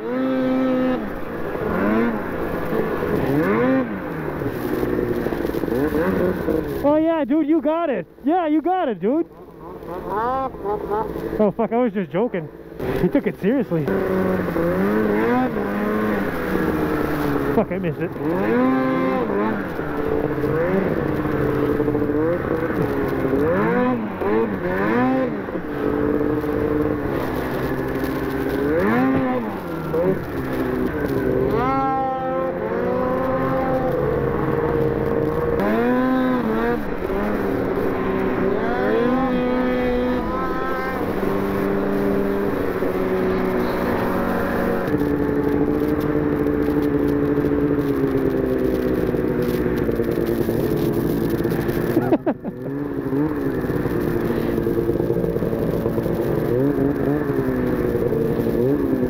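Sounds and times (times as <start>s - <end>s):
snowmobile engines revving: 0.0s - 59.0s.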